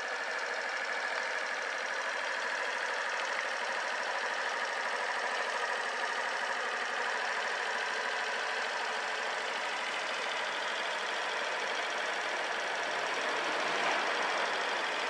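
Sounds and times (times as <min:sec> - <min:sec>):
scooter engine idling: 0:00.0 - 0:15.0.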